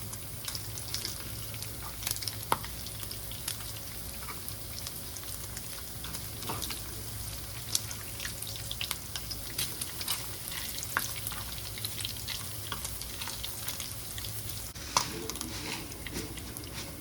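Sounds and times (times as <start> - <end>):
bacon sizzling in a pan: 0.0 - 16.7.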